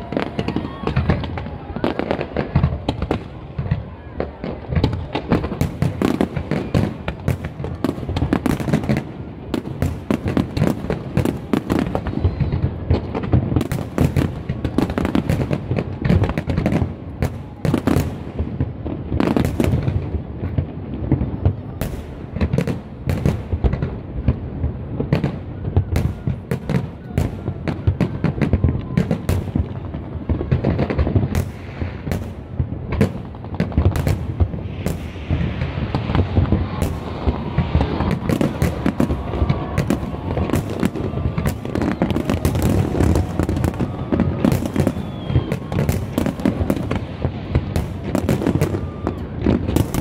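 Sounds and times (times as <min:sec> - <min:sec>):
fireworks bangs and booms: 0:00.0 - 0:50.0.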